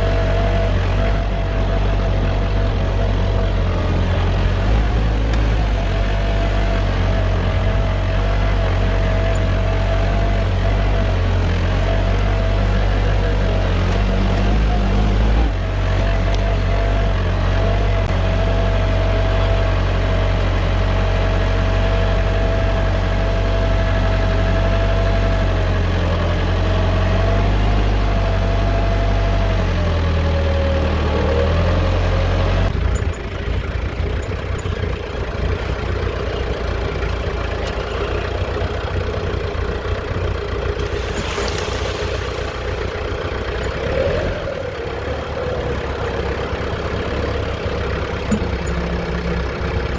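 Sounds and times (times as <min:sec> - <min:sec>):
rough engine: 0:00.0 - 0:49.9
vehicle engine running: 0:00.0 - 0:49.9.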